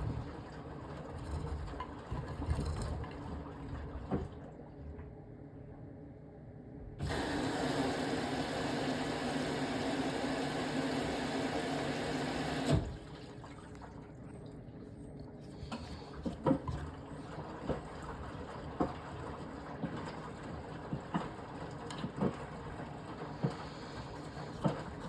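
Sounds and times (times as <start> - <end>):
water rushing into washing machine: 0.0 - 5.2, 7.0 - 25.0
washing machine running: 0.0 - 6.0, 6.8 - 25.0.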